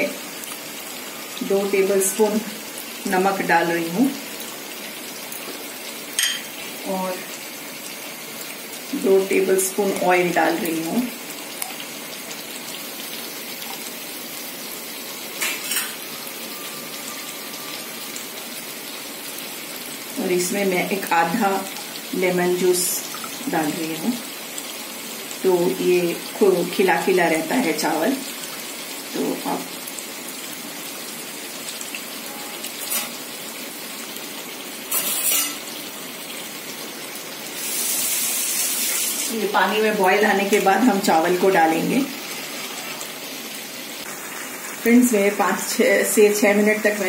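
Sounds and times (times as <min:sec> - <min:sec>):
stovetop cooking hiss: 0:00.0 - 0:47.0.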